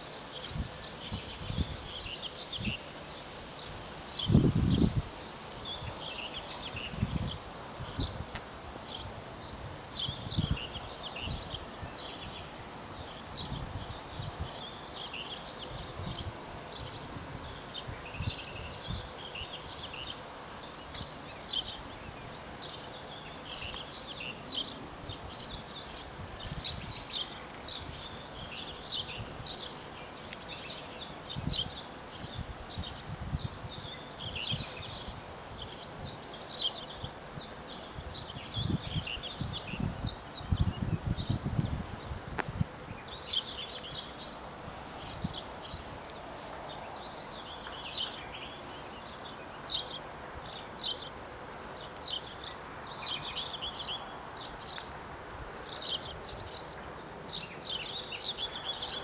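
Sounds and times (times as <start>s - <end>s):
small birds chirping: 5.6s - 59.0s.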